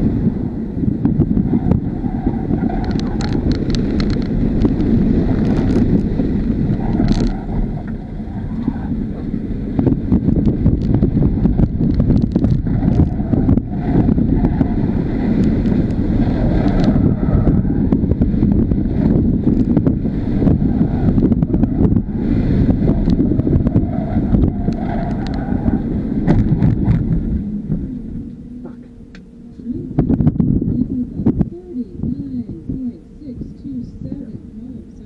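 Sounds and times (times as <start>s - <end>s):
car road rumble and tyre noise: 0.0s - 35.0s.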